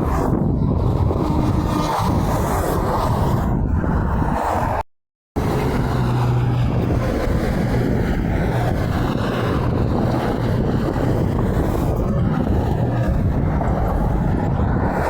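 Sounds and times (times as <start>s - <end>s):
highway traffic roar: 0.0s - 4.8s, 5.4s - 15.0s
wind buffeting microphone: 0.0s - 4.8s, 5.4s - 15.0s.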